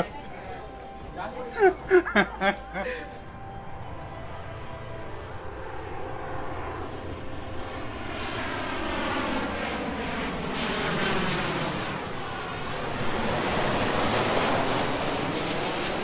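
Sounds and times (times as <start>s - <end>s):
airplane engine rumble overhead: 0.0s - 16.0s.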